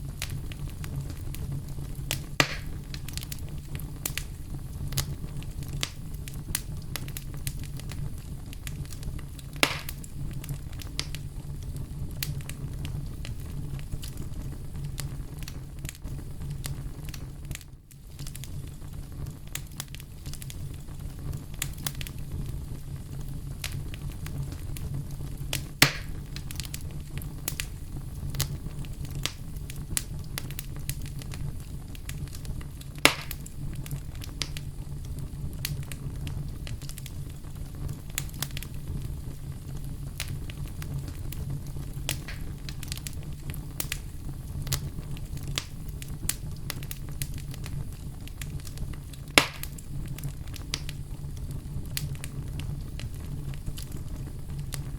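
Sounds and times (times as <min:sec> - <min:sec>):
campfire crackling: 0:00.0 - 0:54.9
fire popping: 0:00.0 - 0:54.9
low rumble of flames: 0:00.0 - 0:54.9.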